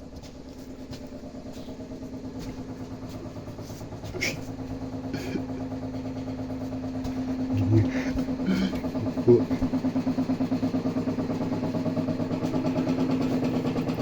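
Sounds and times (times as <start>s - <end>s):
water heater humming: 0.0s - 14.0s.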